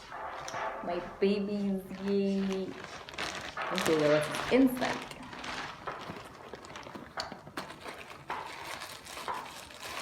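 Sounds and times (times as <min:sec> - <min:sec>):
packaging rustling: 0:01.7 - 0:10.0.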